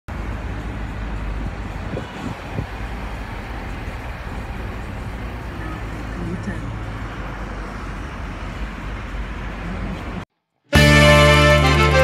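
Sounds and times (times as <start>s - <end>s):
engine and road noise rumble: 0.1s - 12.0s.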